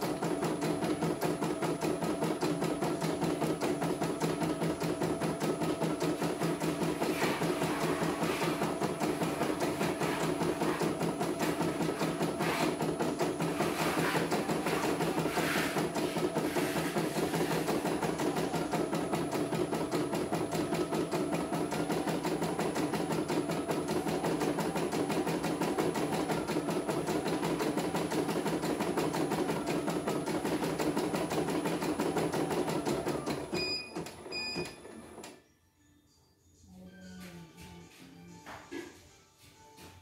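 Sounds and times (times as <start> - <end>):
embroidery machine stitching: 0.0 - 35.3.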